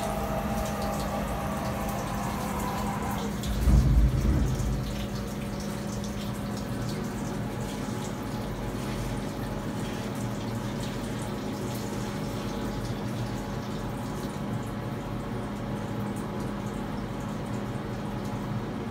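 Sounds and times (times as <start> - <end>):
coolant trickling and dripping: 0.0 - 18.9
pumps humming: 0.0 - 18.9.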